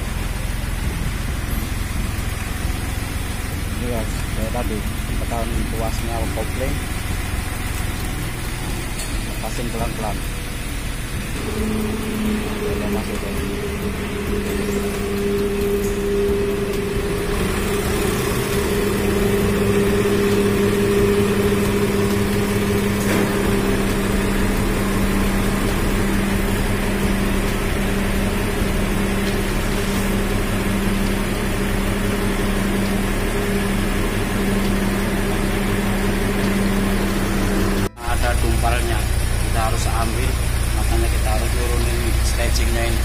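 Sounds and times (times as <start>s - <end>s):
truck diesel engine droning: 0.0s - 43.0s.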